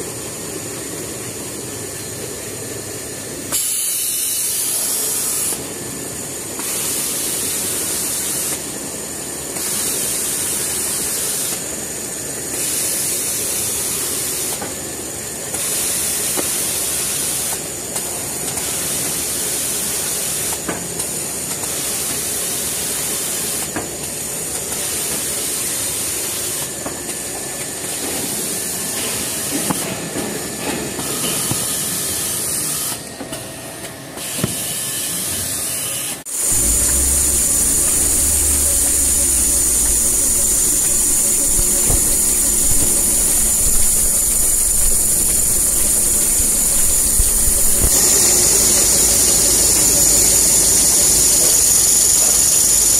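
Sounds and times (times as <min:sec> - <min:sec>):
machinery mechanical hiss: 0:00.0 - 0:52.9.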